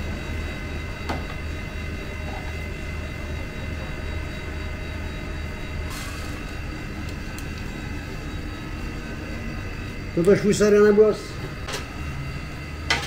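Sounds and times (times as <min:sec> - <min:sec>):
faint high whining tones: 0:00.0 - 0:13.0
low pulsing mechanical drone: 0:00.0 - 0:13.0.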